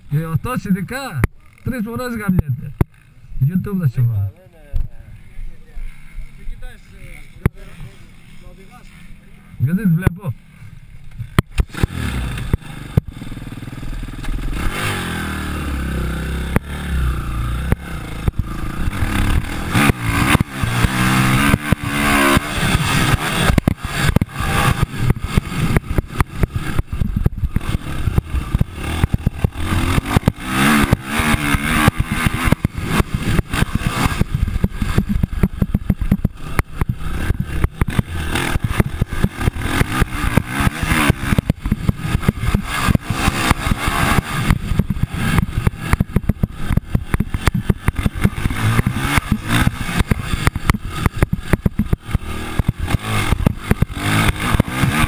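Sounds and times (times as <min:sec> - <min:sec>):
dirt bikes revving: 0:00.0 - 0:55.0.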